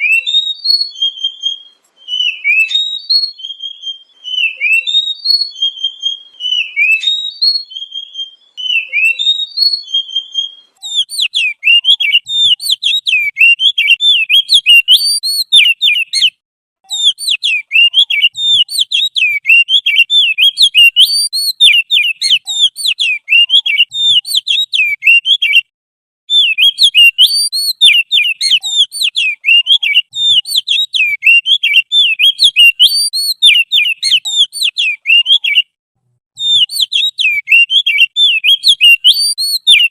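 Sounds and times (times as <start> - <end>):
songbird twittering chatter: 0.0 - 16.3, 16.9 - 25.7, 26.3 - 35.6, 36.4 - 39.9
songbird whistled phrases: 0.0 - 25.7, 26.3 - 35.8, 36.4 - 39.9.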